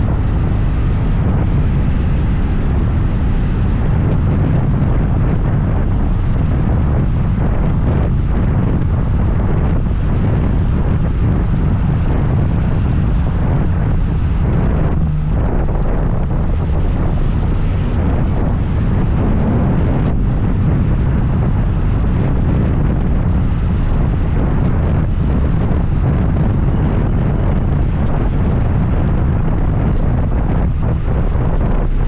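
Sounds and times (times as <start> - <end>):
road noise: 0.0 - 32.0
wind rushing over microphone: 0.0 - 32.0.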